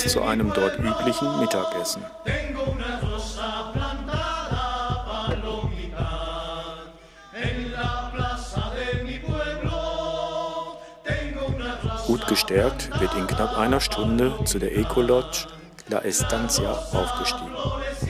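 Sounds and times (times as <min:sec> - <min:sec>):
voices chanting over a beat: 0:00.0 - 0:18.0.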